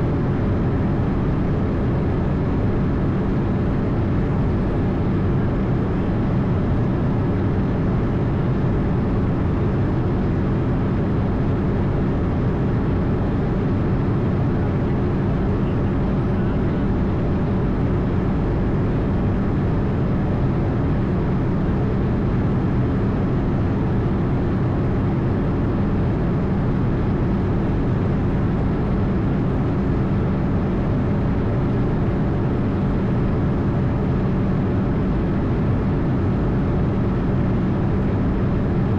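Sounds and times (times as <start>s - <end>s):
low engine hum: 0.0s - 38.9s
rush of air in cabin: 0.0s - 38.9s.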